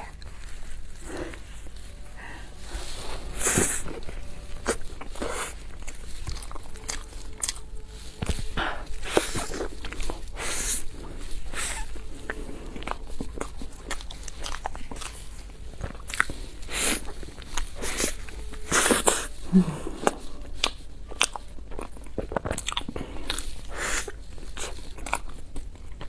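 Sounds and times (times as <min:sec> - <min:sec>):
wet smacking chewing: 0:00.0 - 0:26.0.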